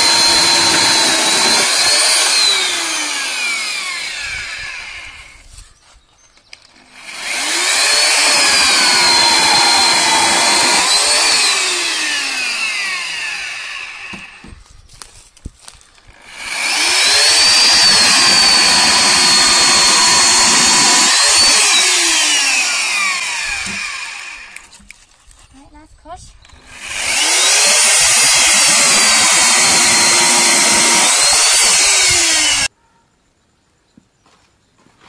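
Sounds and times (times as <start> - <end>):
electric chainsaw cutting log: 0.0 - 5.5, 6.7 - 14.6, 16.0 - 25.0, 26.5 - 32.7.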